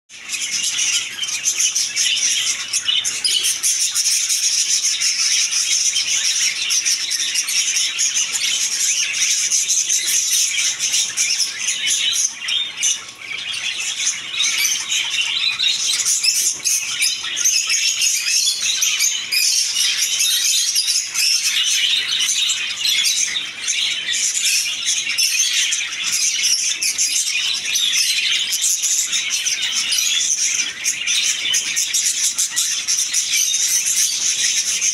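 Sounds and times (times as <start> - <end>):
budgerigars chattering and chirping: 0.1 - 34.9.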